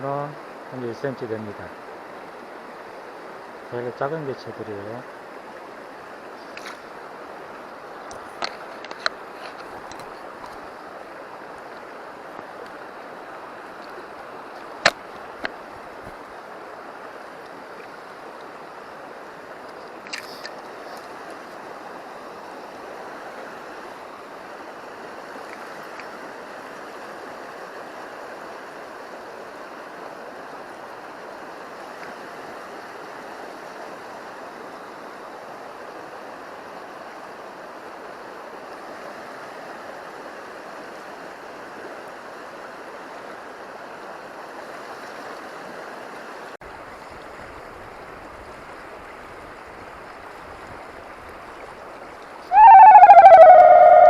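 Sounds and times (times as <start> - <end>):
river water rushing: 1.6 - 52.4.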